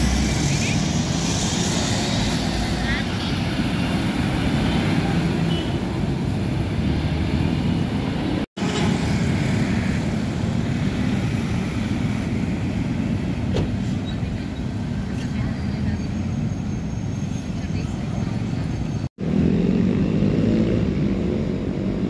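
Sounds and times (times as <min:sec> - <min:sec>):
trucks rumbling past: 0:00.0 - 0:22.0.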